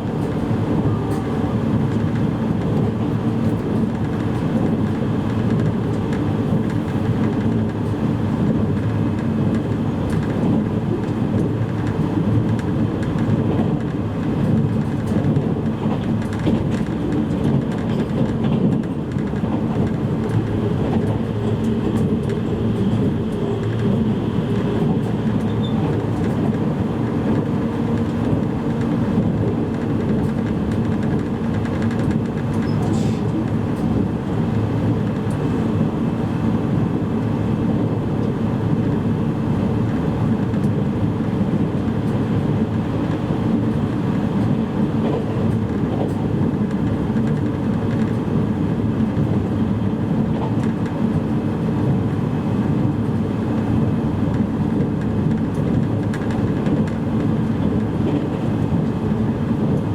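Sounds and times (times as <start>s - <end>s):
train motor hum: 0.0s - 49.4s
train wheels rumbling on rails: 0.0s - 59.9s.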